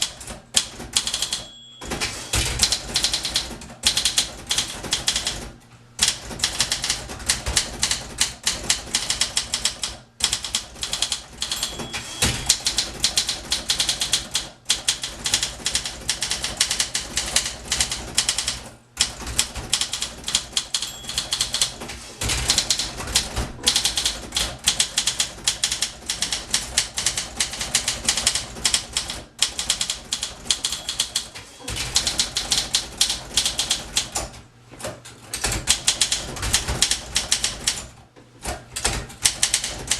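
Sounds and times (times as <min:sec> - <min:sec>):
typewriter typing: 0:00.0 - 0:39.9.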